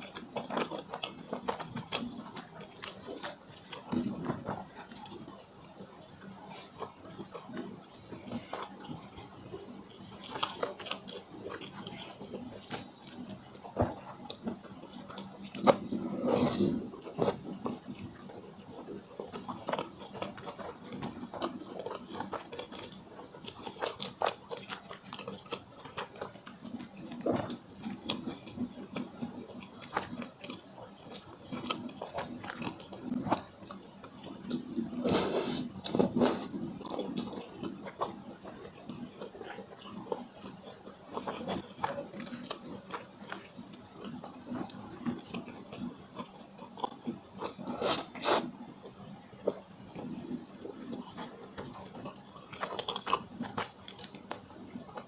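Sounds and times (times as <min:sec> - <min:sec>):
wet chewing and biting: 0:00.0 - 0:55.0.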